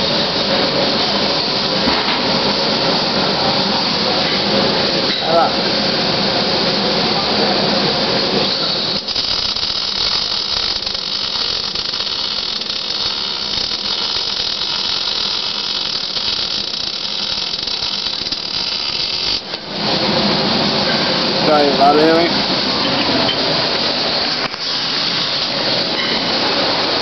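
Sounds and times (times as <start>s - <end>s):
welding arc crackling hiss: 0.0s - 27.0s.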